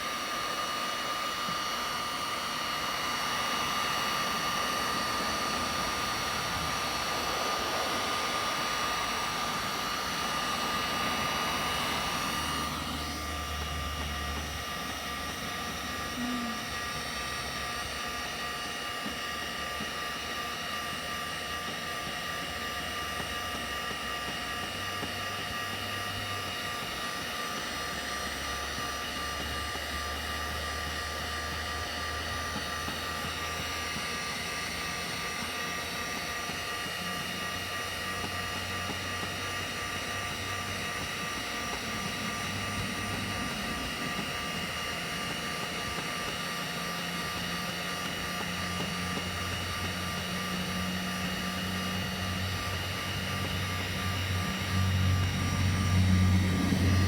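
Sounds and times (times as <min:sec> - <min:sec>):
heat gun fan whining: 0:00.0 - 0:57.0.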